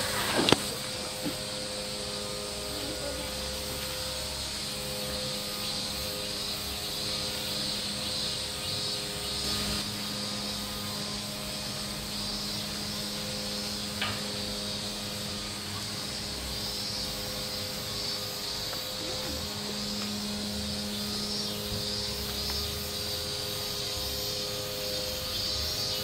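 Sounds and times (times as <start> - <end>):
low hum: 0.0 - 26.0
pulsing high-pitched hiss: 0.0 - 26.0.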